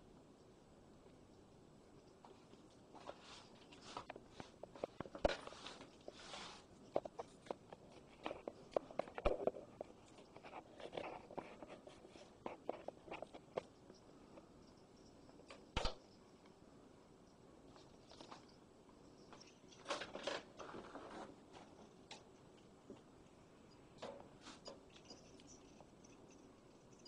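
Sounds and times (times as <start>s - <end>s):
light clicks taps and rustles: 2.0s - 16.6s, 17.7s - 27.0s.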